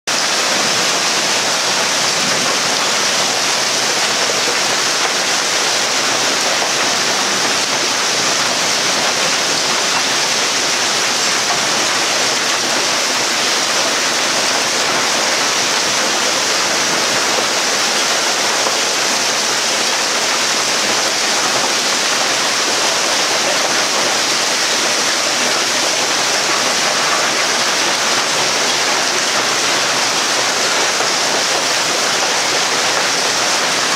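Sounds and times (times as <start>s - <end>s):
heavy rain and hail: 0.1s - 33.9s.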